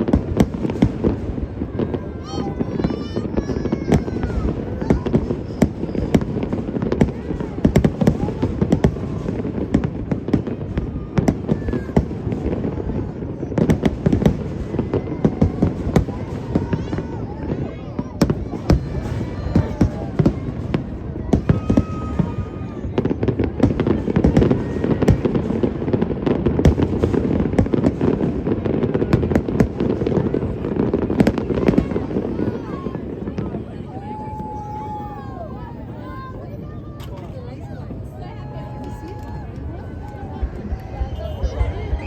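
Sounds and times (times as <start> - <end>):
fireworks bangs and cracks: 0.0 - 42.0
low rumble of fireworks bursts: 0.0 - 42.0.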